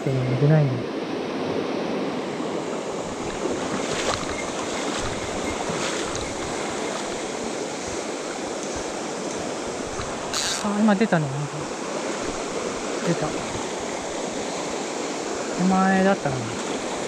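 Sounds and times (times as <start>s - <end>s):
stream rushing over rocks: 0.8s - 17.0s.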